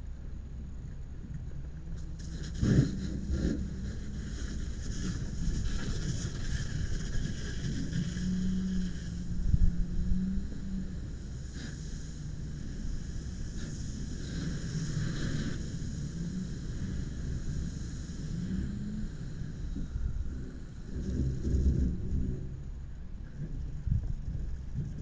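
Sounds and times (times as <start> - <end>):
low engine rumble: 0.0 - 25.0
wind noise on microphone: 2.0 - 25.0.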